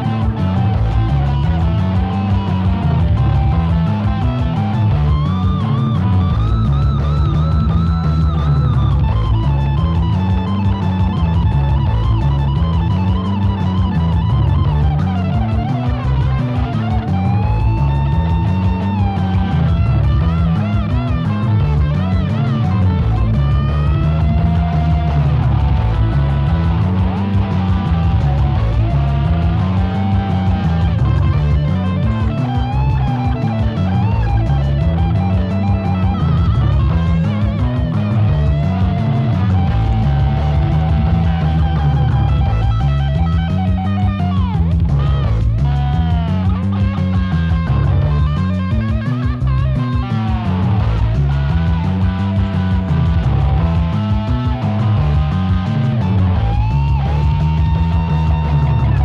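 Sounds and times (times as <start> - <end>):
bass: 0.0 - 59.0
drums: 0.0 - 59.0
electric guitar solo: 0.0 - 59.0.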